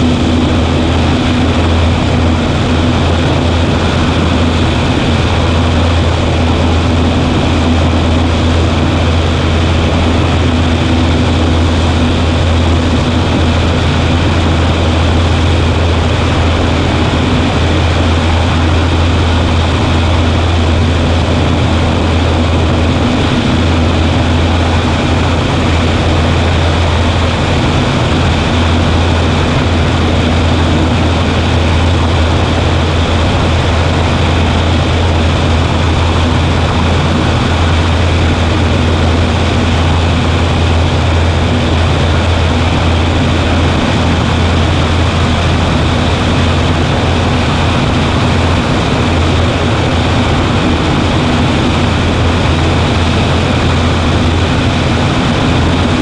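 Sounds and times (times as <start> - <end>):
airplane engine droning: 0.0 - 56.0.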